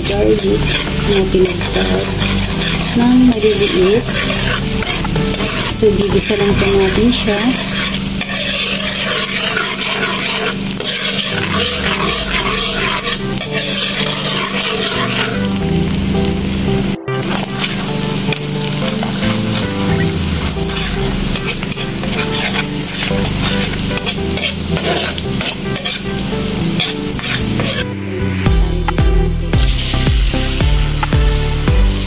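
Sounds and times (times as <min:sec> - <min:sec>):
spatula stirring and scraping pan: 0:00.0 - 0:15.9, 0:17.2 - 0:27.9
garlic sizzling in butter: 0:00.0 - 0:27.9, 0:29.6 - 0:32.0.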